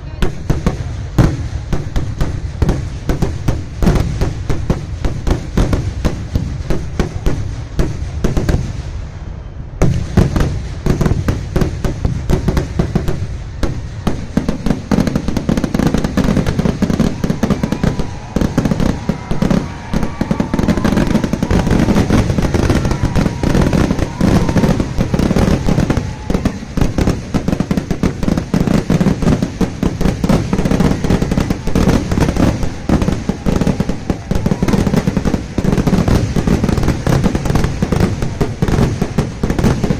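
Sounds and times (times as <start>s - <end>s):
firecracker bangs: 0.0s - 39.9s.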